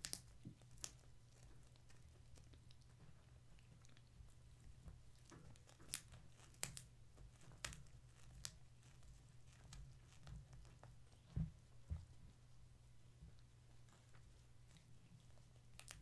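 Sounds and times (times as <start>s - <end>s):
faint sharp clicks and crackles: 0.0s - 12.4s, 13.0s - 16.0s
low electrical hum: 0.0s - 16.0s.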